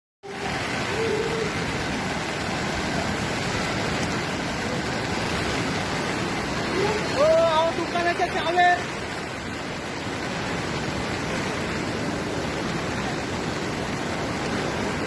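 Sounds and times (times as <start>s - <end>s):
floodwater rushing: 0.2s - 15.0s.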